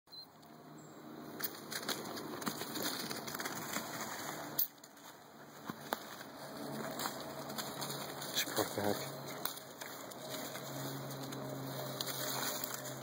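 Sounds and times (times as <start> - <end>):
footsteps crunching through dry leaves: 1.5 - 13.0.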